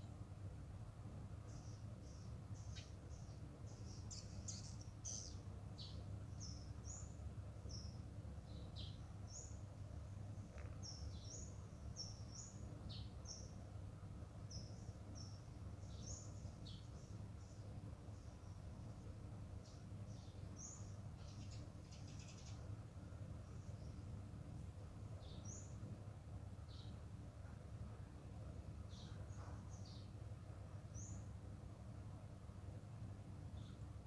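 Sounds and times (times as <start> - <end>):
faint low rumble: 0.0 - 34.0
small birds chirping: 0.0 - 34.0.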